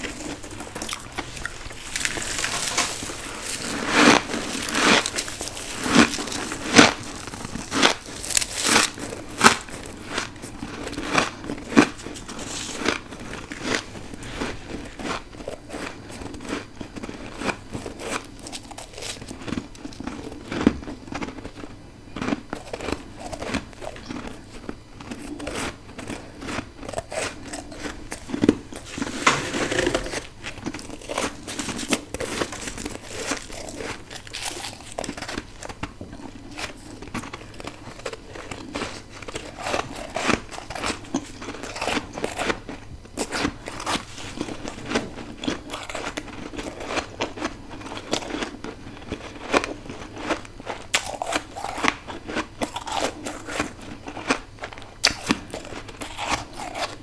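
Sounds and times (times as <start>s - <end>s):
frost being bitten and chewed: 0.0s - 57.0s.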